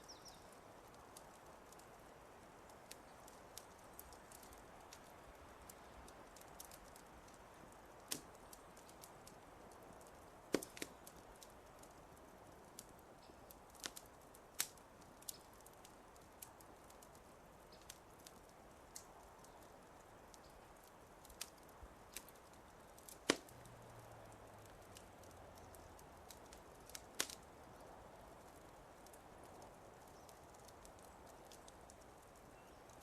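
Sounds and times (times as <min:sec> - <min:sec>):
soft steady hiss: 0:00.0 - 0:33.0
wood fire crackling: 0:00.0 - 0:33.0.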